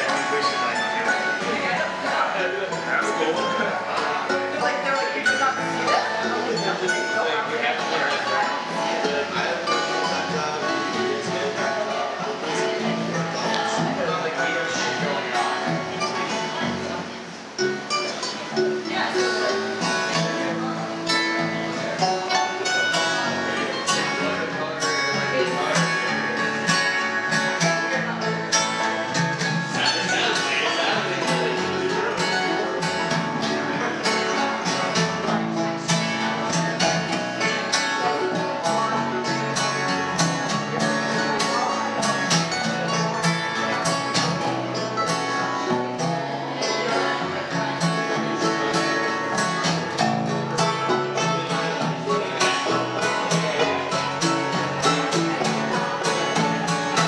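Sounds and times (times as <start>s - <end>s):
banjos and guitar folk tune: 0.0s - 57.0s.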